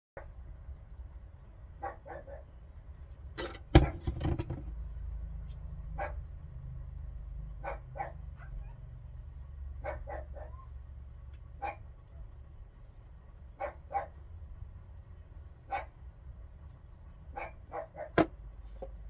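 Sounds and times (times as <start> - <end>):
low steady hum: 0.2 - 19.0.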